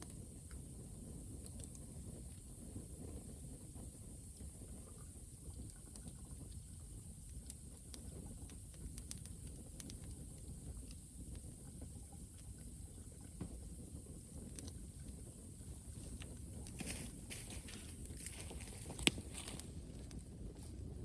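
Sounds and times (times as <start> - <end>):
bonfire crackling and popping: 0.0 - 20.8
low steady fire rumble: 0.0 - 21.0.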